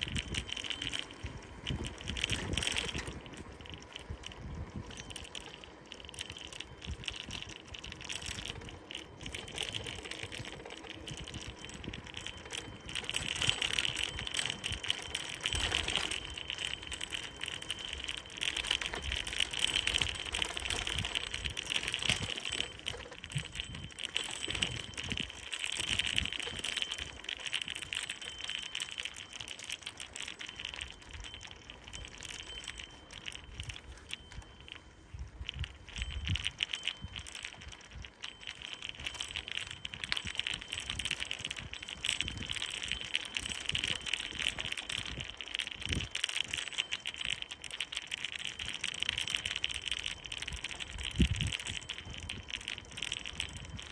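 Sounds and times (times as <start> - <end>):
bike rattling: 0.0 - 53.9
rapid clicks: 0.0 - 53.9.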